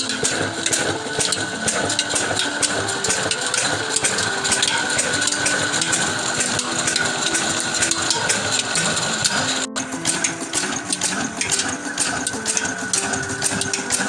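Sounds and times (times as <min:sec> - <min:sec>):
water pump clattering: 0:00.0 - 0:14.0.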